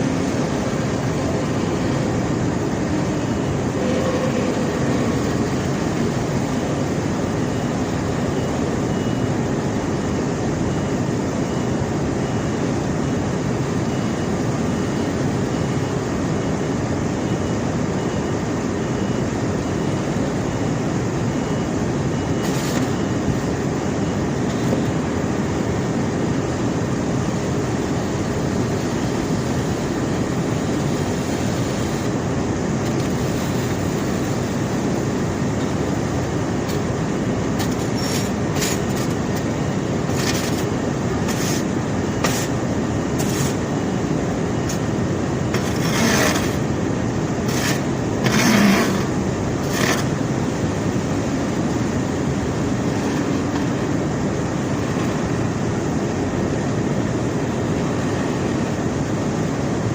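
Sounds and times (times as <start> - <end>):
conveyor belt rumbling: 0.0 - 59.9.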